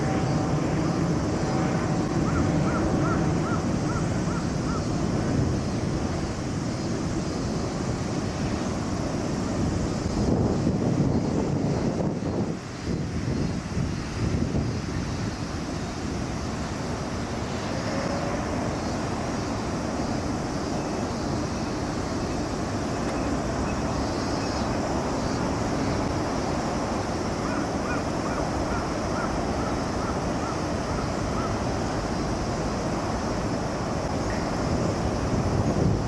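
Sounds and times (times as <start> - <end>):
distant traffic: 0.0 - 36.0
wind: 0.0 - 36.0.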